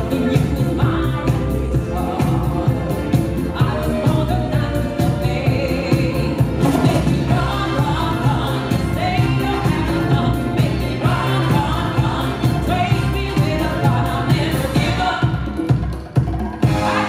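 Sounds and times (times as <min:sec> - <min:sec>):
dance music with singing: 0:00.0 - 0:17.0.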